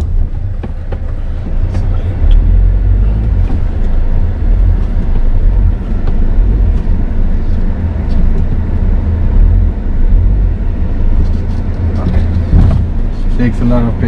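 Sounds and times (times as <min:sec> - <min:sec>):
engine rumble in car cabin: 0:00.0 - 0:14.0.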